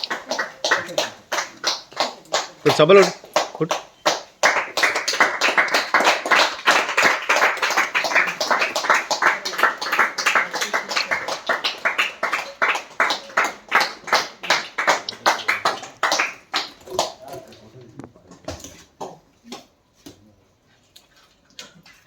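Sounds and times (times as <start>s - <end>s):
hands clapping rhythmically: 0.0s - 17.6s, 19.0s - 20.2s.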